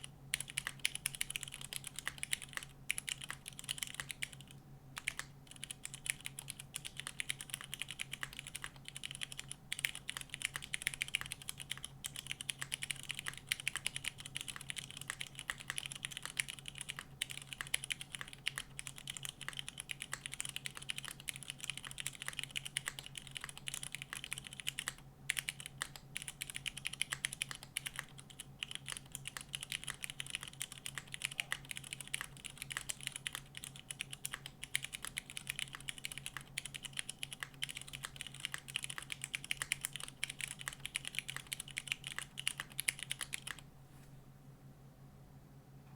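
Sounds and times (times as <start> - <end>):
mechanical keyboard typing: 0.0 - 43.6.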